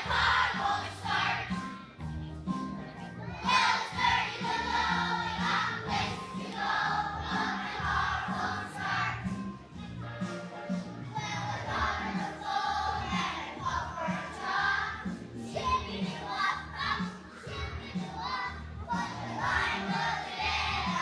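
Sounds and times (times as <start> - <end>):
children singing together: 0.0 - 1.6, 3.2 - 9.4, 11.1 - 21.0
instrumental accompaniment with bass: 0.0 - 21.0.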